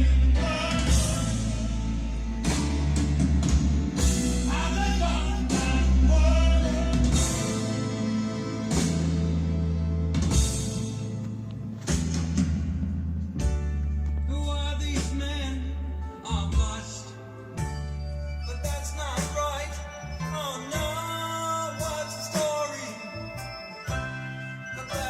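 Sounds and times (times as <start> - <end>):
rock song from vinyl record: 0.0 - 25.0.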